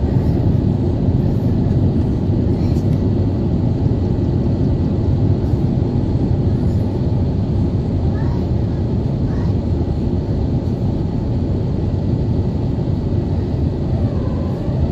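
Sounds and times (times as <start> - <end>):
airplane cabin engine rumble: 0.0 - 14.9.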